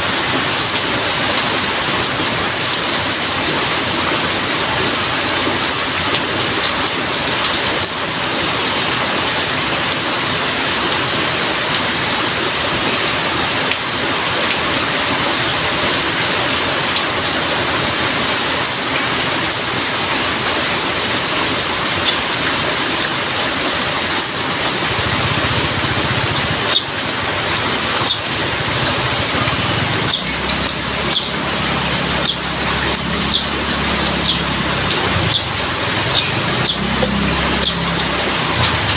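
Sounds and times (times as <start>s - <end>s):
heavy rain hissing: 0.0s - 38.9s
sharp water drips: 0.0s - 38.9s.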